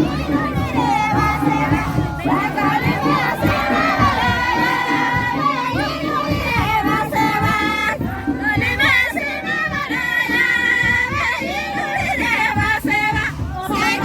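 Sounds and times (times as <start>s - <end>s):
high voices singing in chorus: 0.0s - 14.0s.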